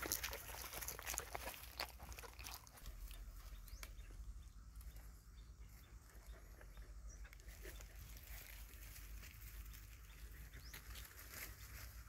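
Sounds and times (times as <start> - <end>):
dogs eating off grass: 0.0 - 12.0.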